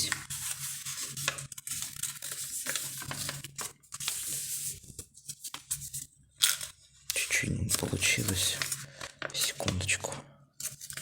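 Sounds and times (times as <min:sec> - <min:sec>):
paper rustling and crinkling: 0:00.0 - 0:06.8, 0:07.7 - 0:10.0, 0:10.6 - 0:11.0.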